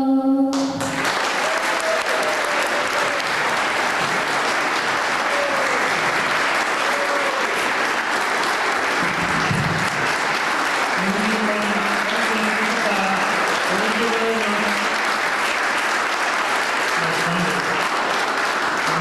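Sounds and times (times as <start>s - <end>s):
audience applauding and cheering: 0.5s - 19.0s.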